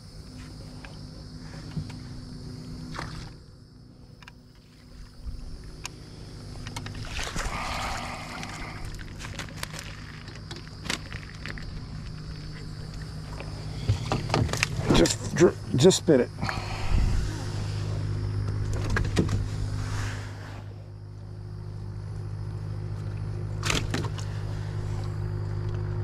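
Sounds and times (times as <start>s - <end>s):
boat motor hum: 0.0s - 26.0s.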